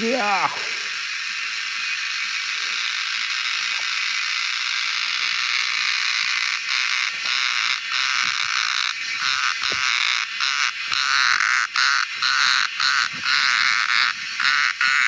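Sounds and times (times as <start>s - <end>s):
cicada rasping buzz: 0.0s - 15.0s.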